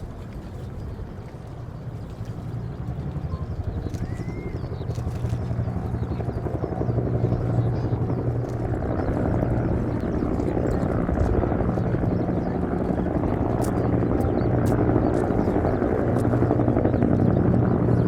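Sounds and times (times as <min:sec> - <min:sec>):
steady low drone: 0:00.0 - 0:18.0
helicopter rotor beating: 0:01.8 - 0:18.0.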